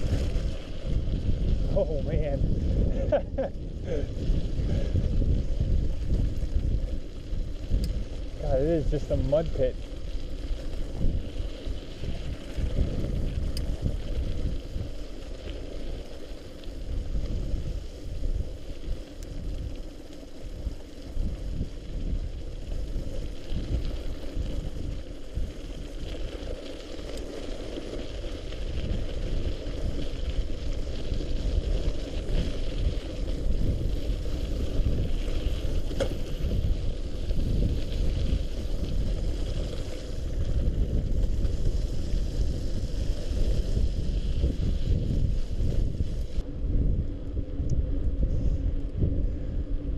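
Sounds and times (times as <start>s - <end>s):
bike tyres rumbling on wet trail: 0.0s - 49.9s
wind buffeting microphone: 0.0s - 49.9s.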